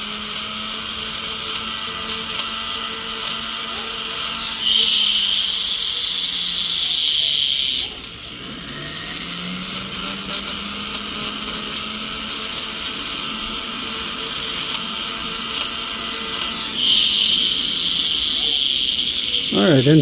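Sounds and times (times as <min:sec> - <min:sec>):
rotary tool polishing: 0:00.0 - 0:20.0.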